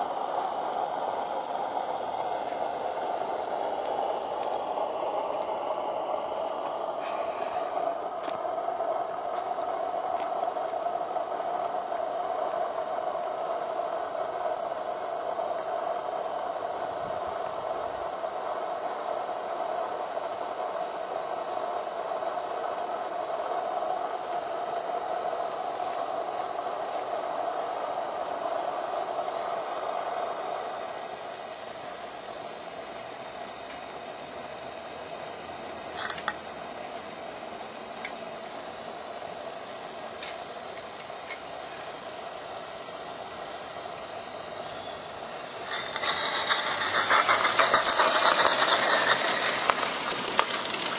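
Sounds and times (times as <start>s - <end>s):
steam hissing: 0.0s - 50.9s.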